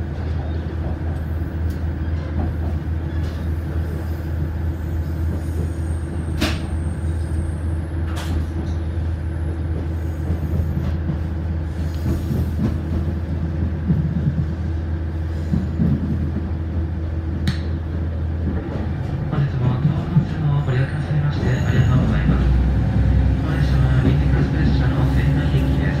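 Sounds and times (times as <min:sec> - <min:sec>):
railcar engine drone: 0:00.0 - 0:26.0.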